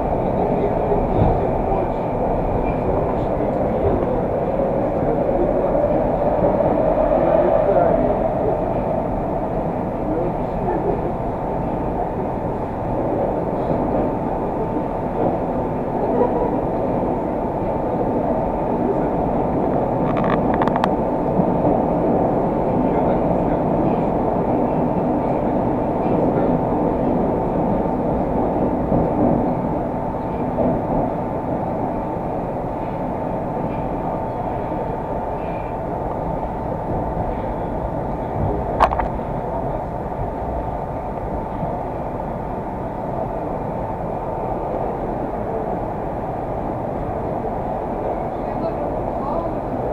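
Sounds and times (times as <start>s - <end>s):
constant hum: 0.0s - 49.9s
metro train wheels rumbling: 0.0s - 49.9s.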